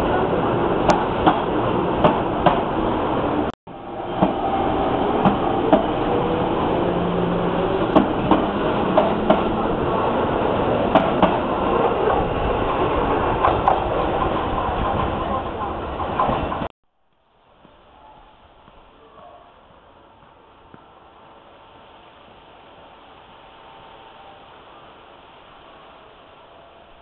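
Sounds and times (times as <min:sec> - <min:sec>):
train rolling rumble: 0:00.0 - 0:16.7, 0:17.6 - 0:27.0.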